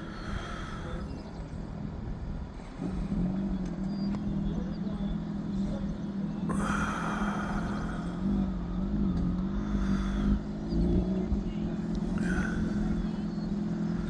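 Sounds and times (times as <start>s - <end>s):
distant engine running: 0.0s - 14.0s
low rumble: 0.0s - 14.0s.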